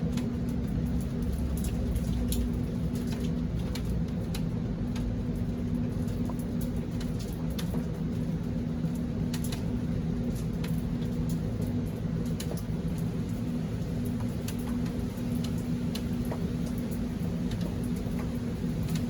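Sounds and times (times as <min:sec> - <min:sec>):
low machine hum: 0:00.0 - 0:19.0
rain drops ticking on surfaces: 0:00.0 - 0:19.0.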